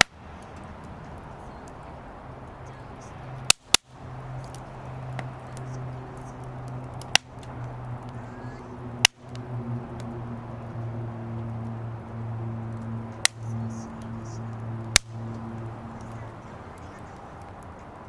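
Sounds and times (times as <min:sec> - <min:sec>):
firewood burning: 0:00.0 - 0:18.0
low hum: 0:00.0 - 0:18.0
wood cracking pops: 0:00.0 - 0:18.0.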